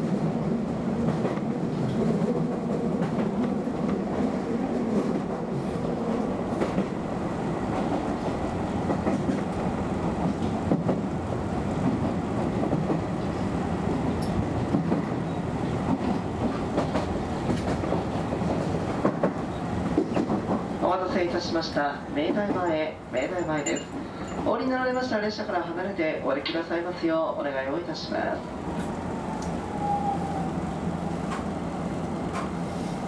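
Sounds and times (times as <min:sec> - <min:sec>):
train hum: 0:00.0 - 0:33.0
train wheels rumbling on rail: 0:00.0 - 0:33.0.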